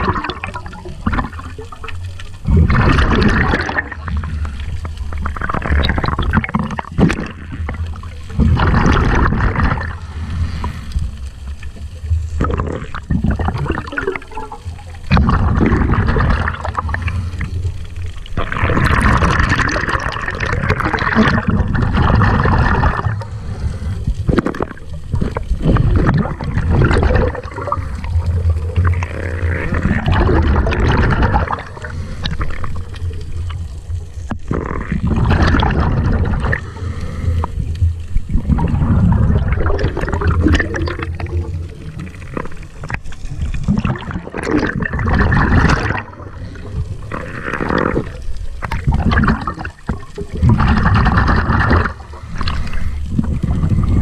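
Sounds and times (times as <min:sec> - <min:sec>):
underwater water rushing and gurgling: 0:00.0 - 0:54.0.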